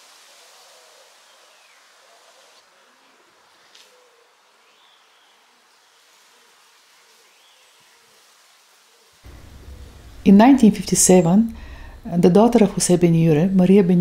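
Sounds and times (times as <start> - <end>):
soft steady hiss: 0.0 - 14.0.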